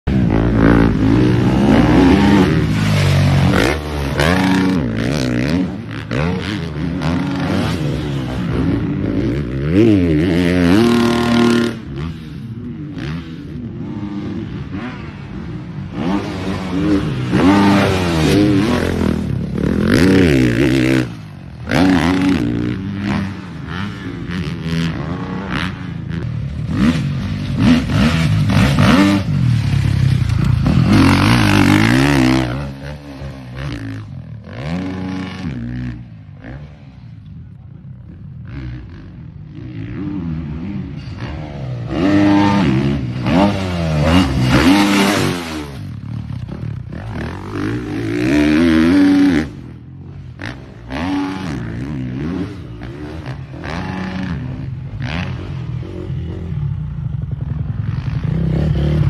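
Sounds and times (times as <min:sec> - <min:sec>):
motocross bike engine revving: 0:00.0 - 0:37.2, 0:38.4 - 0:59.0.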